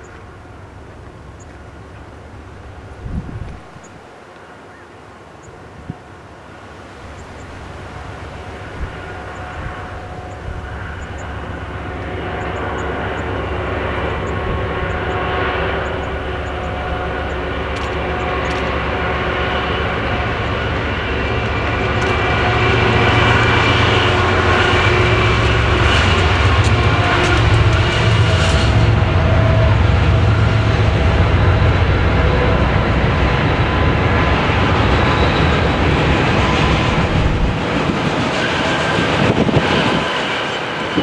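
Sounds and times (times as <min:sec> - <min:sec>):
locomotive engines droning: 0:00.0 - 0:41.0
train low rumble: 0:00.0 - 0:41.0.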